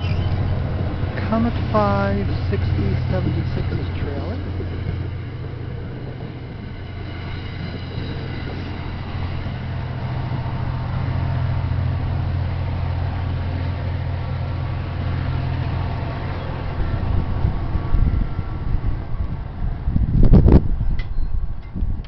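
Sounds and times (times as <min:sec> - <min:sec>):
diesel locomotive droning: 0:00.0 - 0:22.0
wind buffeting microphone: 0:00.0 - 0:22.0.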